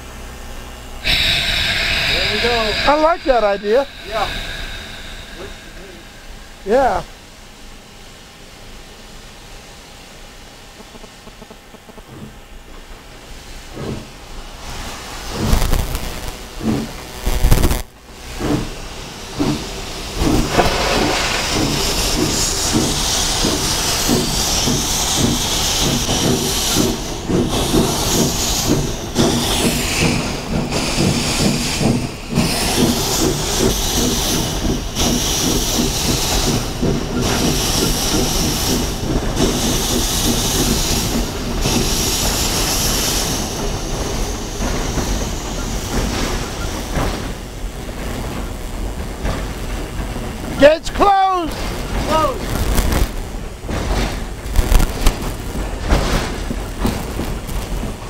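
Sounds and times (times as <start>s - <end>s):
steam hissing: 0.0s - 8.4s, 9.8s - 58.0s
rhythmic locomotive exhaust beat: 0.0s - 58.0s.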